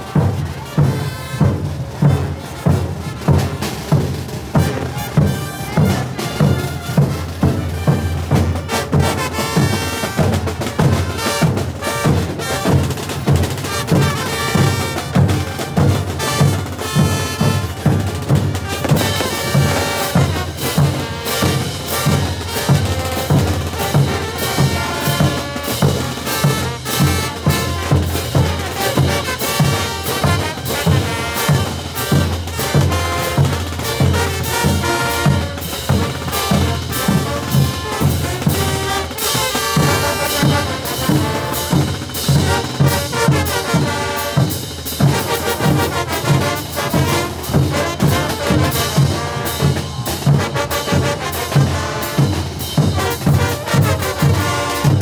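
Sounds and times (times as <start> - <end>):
drums beating: 0.0 - 55.0
trumpets and trombones: 0.0 - 55.0.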